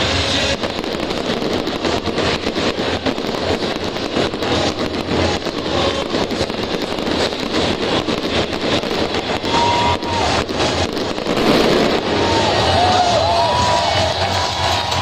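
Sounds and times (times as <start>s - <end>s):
crowd din: 0.0s - 15.0s
firework whistle: 0.0s - 15.0s
fireworks popping and crackling: 0.0s - 15.0s.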